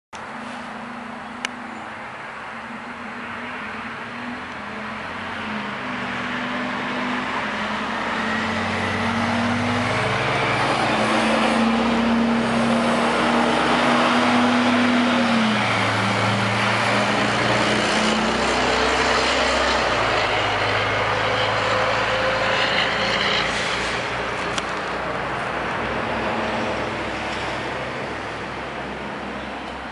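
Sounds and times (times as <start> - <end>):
bus driving past: 0.2 - 29.9.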